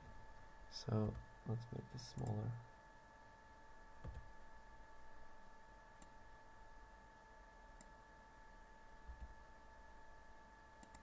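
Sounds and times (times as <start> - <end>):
faint electrical whine: 0.0 - 11.0.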